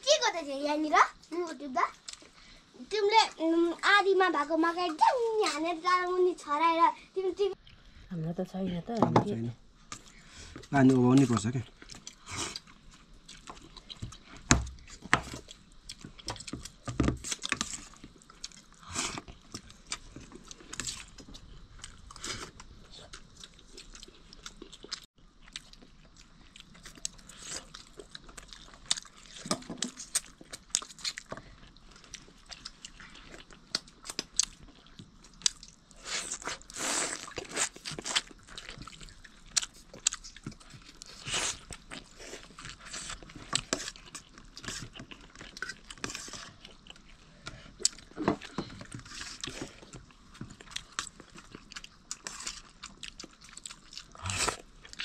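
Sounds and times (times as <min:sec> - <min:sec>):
people chewing and crunching: 0:01.0 - 0:05.8, 0:09.7 - 0:55.0.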